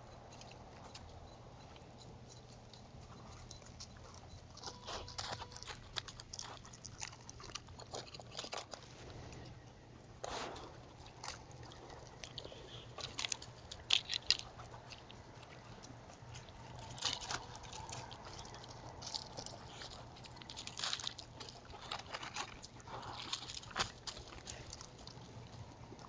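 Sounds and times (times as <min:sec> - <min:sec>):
animals crunching and scuffing: 0:00.0 - 0:26.0
faint low hum: 0:00.0 - 0:26.0.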